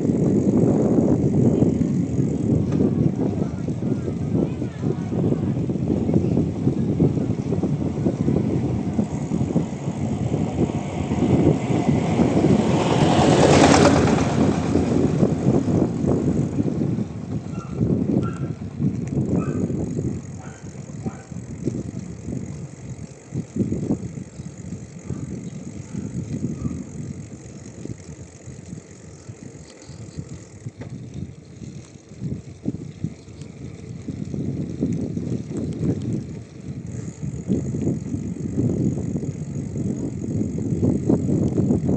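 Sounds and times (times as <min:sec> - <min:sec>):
bicycle ride rumble: 0:00.0 - 0:41.9
wind buffeting microphone: 0:00.0 - 0:41.9.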